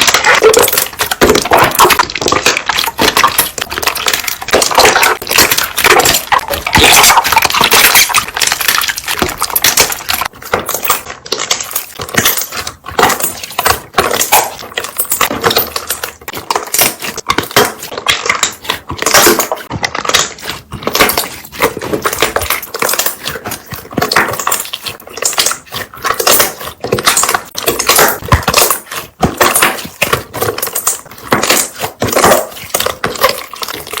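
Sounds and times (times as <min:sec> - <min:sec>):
slime bubbles popping and crackling: 0:00.0 - 0:34.0.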